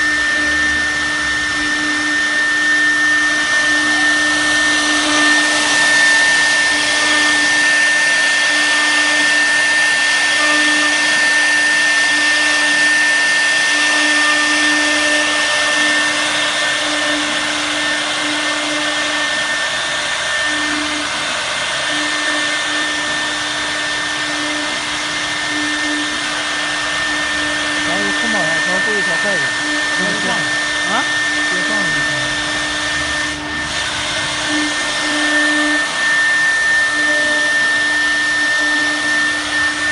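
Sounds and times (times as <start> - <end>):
cnc router whine: 0.0 - 39.9
machine noise: 0.0 - 39.9.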